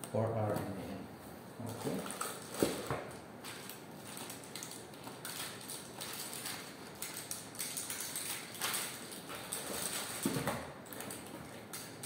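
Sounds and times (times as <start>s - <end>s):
plastic packaging rustling: 1.7s - 12.0s.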